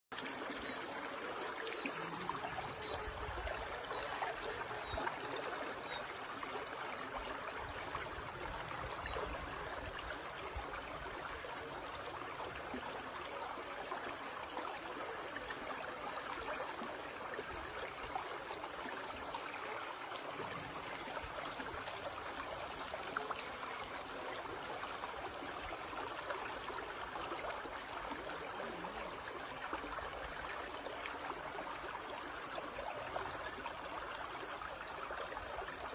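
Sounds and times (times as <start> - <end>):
stream flowing: 0.1 - 35.9.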